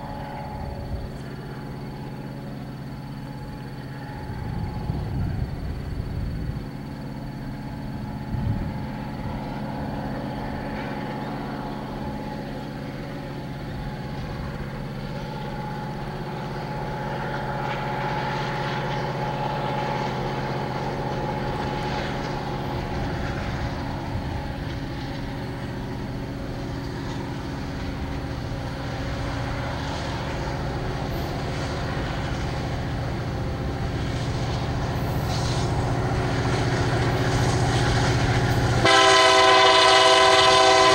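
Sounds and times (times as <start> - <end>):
locomotive engine drone: 0.0 - 40.9.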